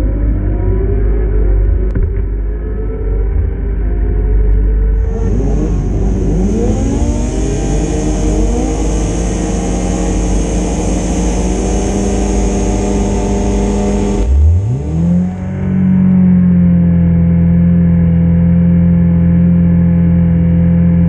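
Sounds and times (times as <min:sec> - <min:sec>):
racing motorcycle engines accelerating: 0:00.0 - 0:17.4.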